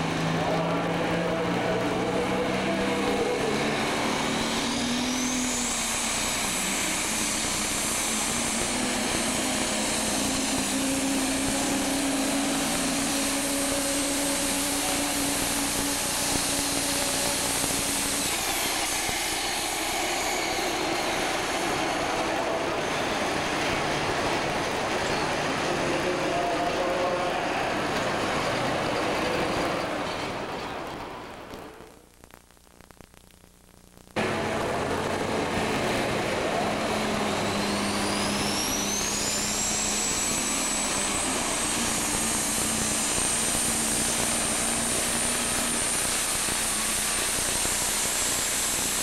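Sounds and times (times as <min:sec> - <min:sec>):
diesel engine at full throttle: 0:00.0 - 0:31.9, 0:34.2 - 0:49.0
high turbo whine: 0:00.0 - 0:49.0.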